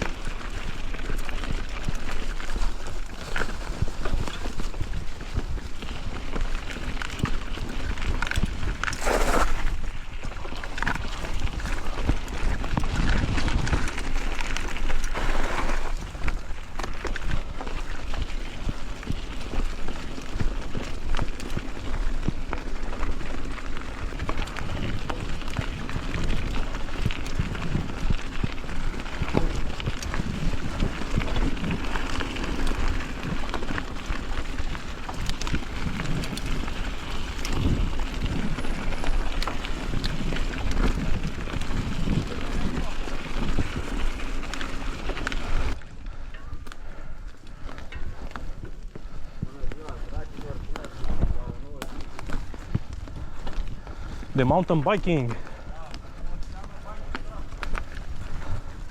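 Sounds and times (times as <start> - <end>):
wind rumbling on microphone: 0.0 - 54.4, 55.0 - 58.9
bike clicks and rattles: 0.0 - 58.9
bike tyres on rough trail: 0.0 - 58.9.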